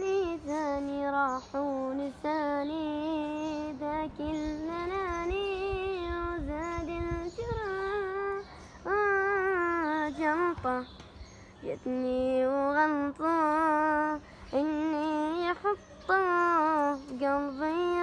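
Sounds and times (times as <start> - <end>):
young man singing unaccompanied: 0.0 - 18.0.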